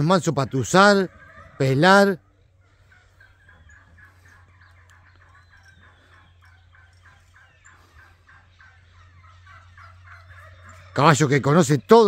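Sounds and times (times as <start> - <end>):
distant poultry calling: 0.0 - 12.0.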